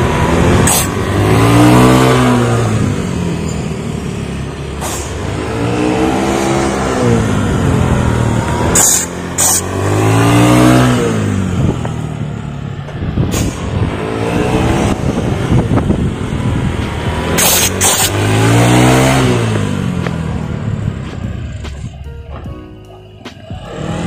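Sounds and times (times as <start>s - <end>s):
scooter engine revving: 0.0s - 22.1s, 23.3s - 24.0s.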